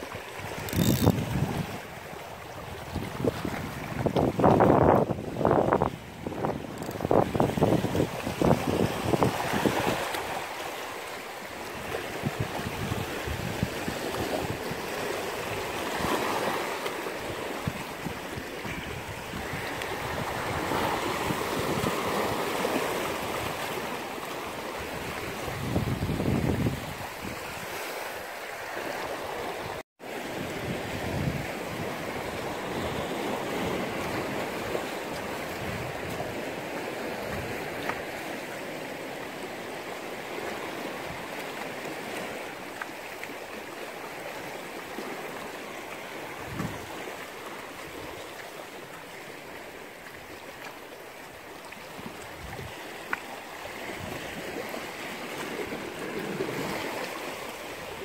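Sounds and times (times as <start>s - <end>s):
waves lapping on rocks: 0.0s - 58.0s.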